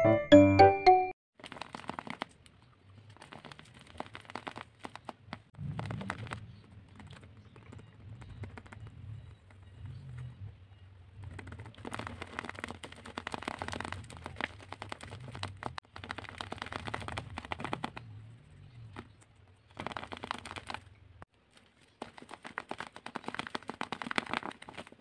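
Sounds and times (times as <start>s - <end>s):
paper crinkling and clicking: 1.4s - 9.6s, 11.2s - 18.1s, 18.8s - 20.9s, 21.5s - 25.0s.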